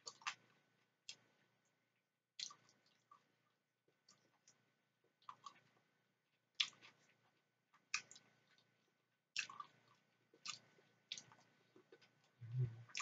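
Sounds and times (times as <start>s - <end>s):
soft chewing: 0.0s - 1.8s, 2.4s - 13.0s.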